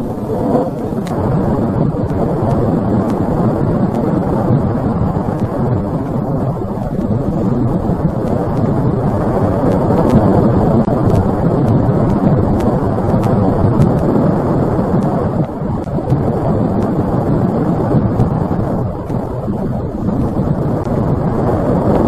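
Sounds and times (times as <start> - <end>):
fire tornado rushing: 0.0 - 22.0.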